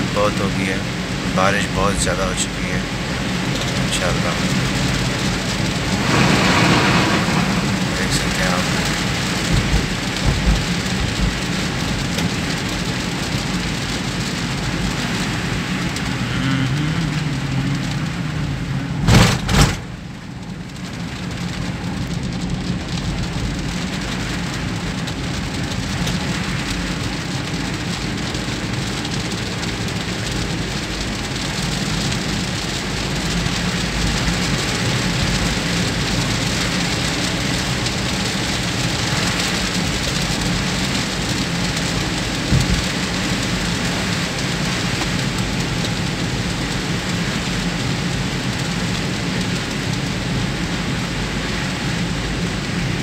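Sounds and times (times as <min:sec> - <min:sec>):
engine and road hum: 0:00.0 - 0:53.0
heavy rain on car windscreen: 0:00.0 - 0:53.0.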